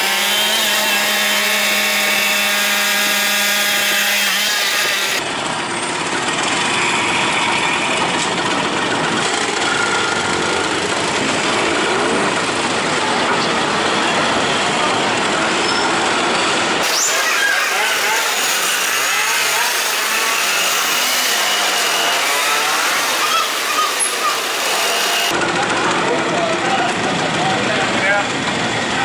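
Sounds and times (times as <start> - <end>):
moped engine buzzing: 0.0 - 14.0, 15.0 - 26.3.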